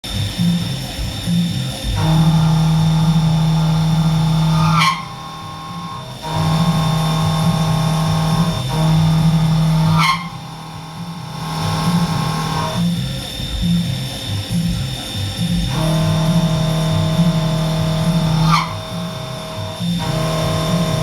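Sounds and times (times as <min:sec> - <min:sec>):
milling cutter cutting metal: 0:00.2 - 0:21.0.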